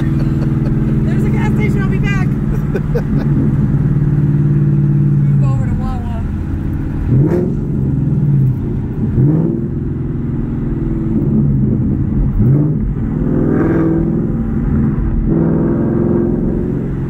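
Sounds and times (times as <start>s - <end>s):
car engine accelerating loudly: 0.0s - 17.0s.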